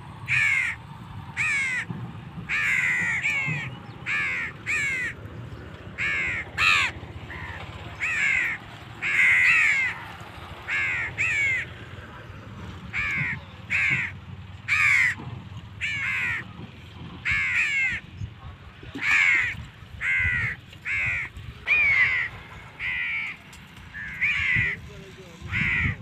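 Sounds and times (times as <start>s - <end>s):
crows cawing: 0.3s - 11.9s, 12.8s - 16.6s, 17.2s - 18.1s, 19.0s - 26.0s.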